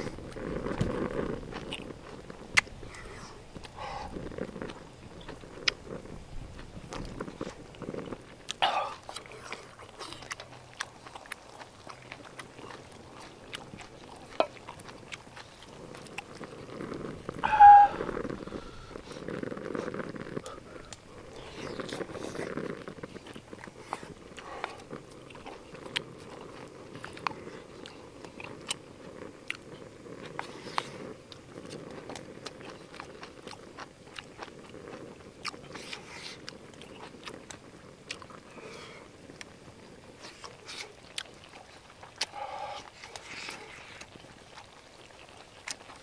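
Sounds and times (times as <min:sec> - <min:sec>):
close chewing: 0:00.0 - 0:46.0
mouth clicks and bites: 0:00.0 - 0:46.0.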